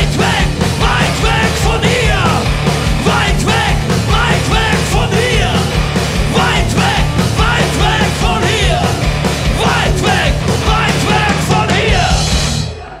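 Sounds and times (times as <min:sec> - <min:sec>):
electric guitars: 0:00.0 - 0:12.9
drum kit: 0:00.0 - 0:13.0
man singing and shouting: 0:00.0 - 0:13.0.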